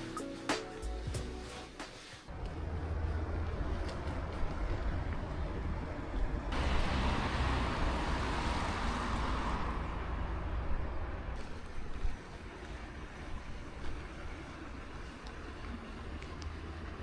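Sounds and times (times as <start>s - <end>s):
vehicle engine rumble: 2.3s - 17.0s.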